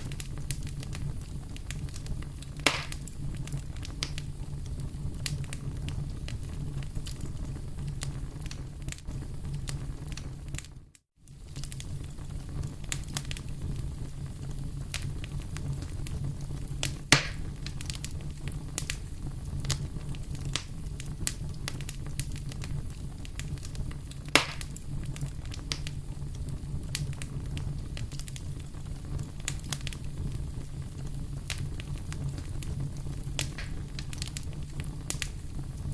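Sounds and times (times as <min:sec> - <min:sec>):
loud fire pops: 0:00.0 - 0:35.9
wood fire crackling: 0:00.0 - 0:35.9.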